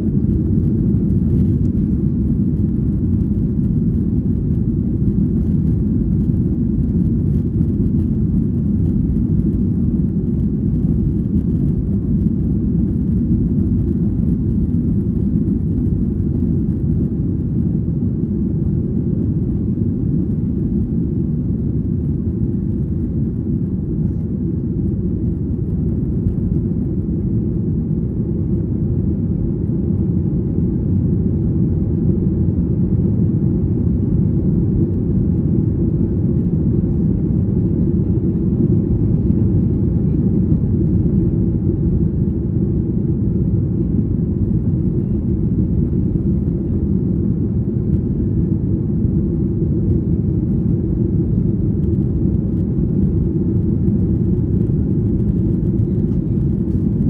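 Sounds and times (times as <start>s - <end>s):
jet engines low rumble: 0.0s - 57.0s.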